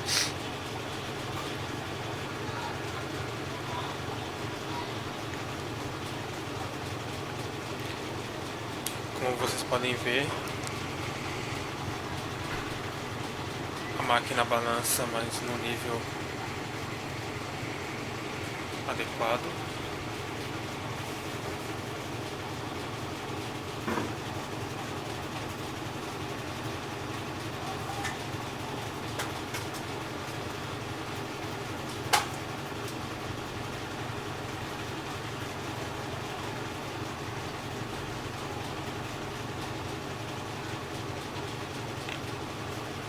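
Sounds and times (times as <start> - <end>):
washing machine spinning: 0.0 - 43.0.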